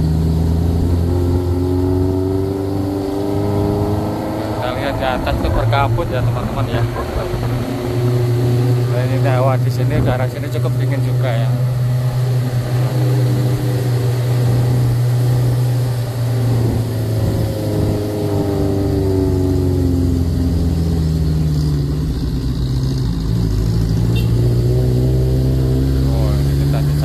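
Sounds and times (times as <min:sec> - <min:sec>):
car engine running hard uphill: 0:00.0 - 0:27.0.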